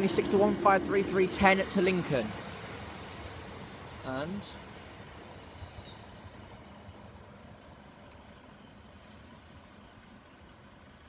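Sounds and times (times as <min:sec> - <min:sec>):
diesel railcars rumbling: 0:00.0 - 0:11.0.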